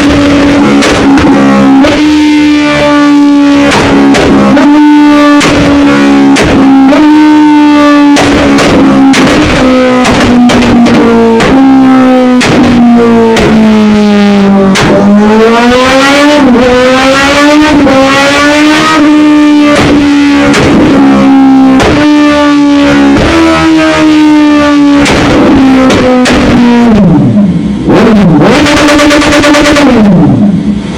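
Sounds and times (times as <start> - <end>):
sharp exhaust pops: 0.0 - 30.7
motorcycle engine revving: 0.0 - 30.9.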